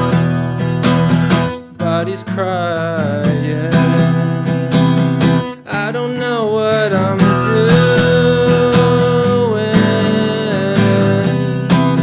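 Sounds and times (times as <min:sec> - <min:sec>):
acoustic guitar strumming: 0:00.0 - 0:12.0
man singing: 0:01.6 - 0:12.0.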